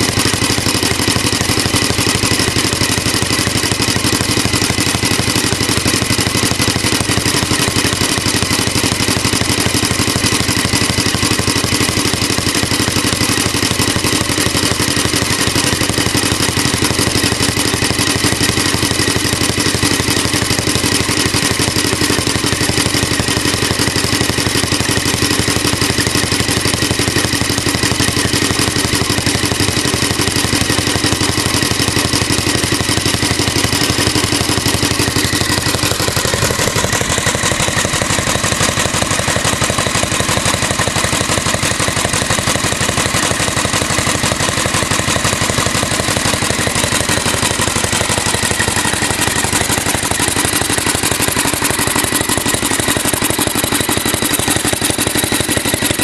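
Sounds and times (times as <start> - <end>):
small engine running steadily: 0.0 - 56.0.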